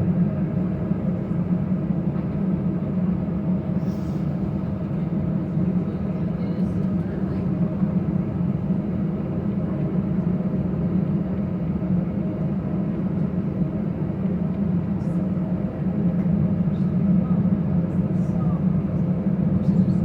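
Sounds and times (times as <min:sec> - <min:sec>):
airliner cabin drone: 0:00.0 - 0:20.0.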